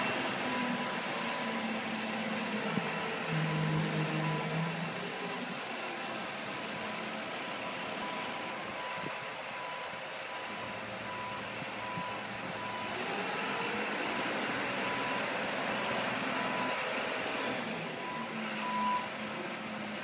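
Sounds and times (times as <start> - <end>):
forklift engine running: 0.0 - 20.0
reversing alarm beeping: 0.5 - 1.8, 2.8 - 5.5, 6.5 - 19.1.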